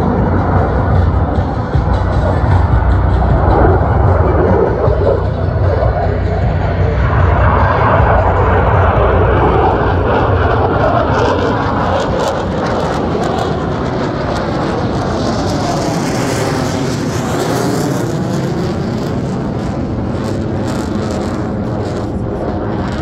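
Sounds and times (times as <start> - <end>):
jet engines flying past: 0.0 - 23.0.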